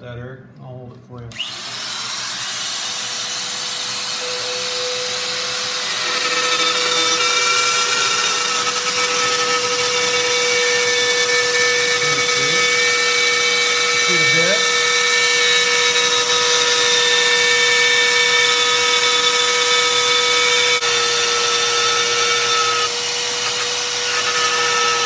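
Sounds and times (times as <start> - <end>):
spiral saw cutting plastic: 1.3 - 25.0.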